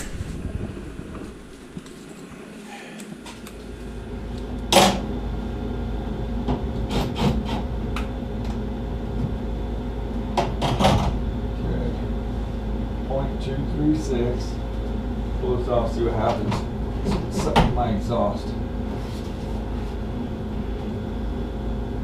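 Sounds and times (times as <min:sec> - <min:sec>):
furnace humming: 0:00.0 - 0:22.0.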